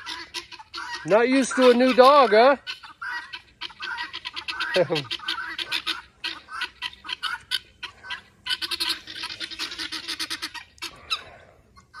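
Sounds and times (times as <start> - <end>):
guineafowl rattling alarm chatter: 0.0 - 12.0.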